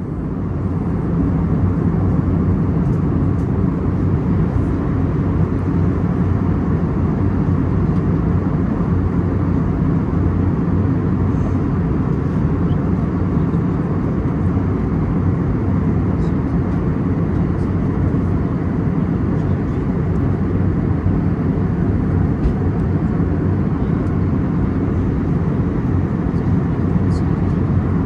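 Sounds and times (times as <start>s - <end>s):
airplane cabin engine drone: 0.0s - 28.0s.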